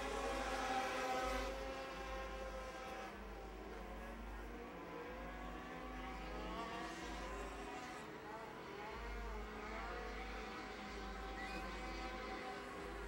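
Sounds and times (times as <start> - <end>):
faint race truck engines: 0.0 - 13.0.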